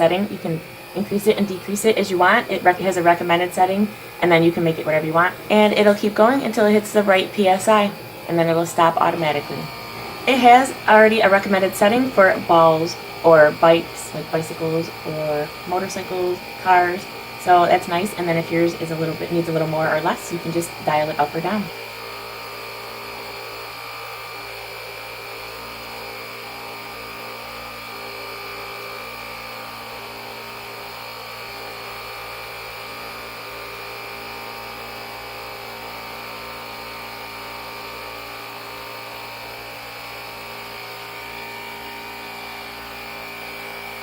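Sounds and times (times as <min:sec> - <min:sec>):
air compressor running: 0:00.0 - 0:44.0.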